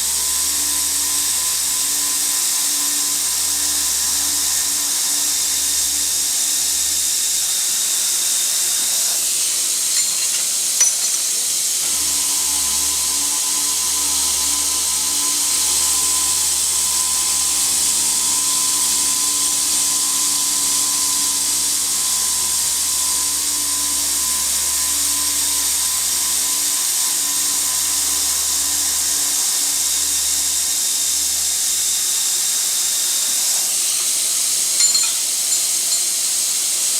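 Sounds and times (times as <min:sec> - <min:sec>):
circular saw running: 0:00.0 - 0:36.9.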